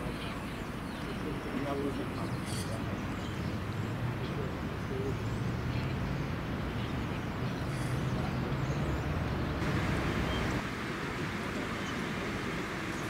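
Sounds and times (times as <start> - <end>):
distant traffic and machinery hum: 0.0 - 13.0.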